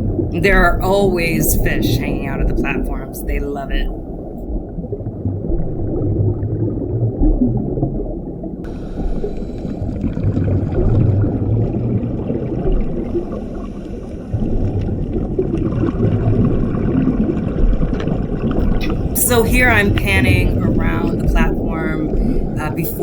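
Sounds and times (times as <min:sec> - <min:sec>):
underwater rumble with gurgling: 0:00.0 - 0:23.0.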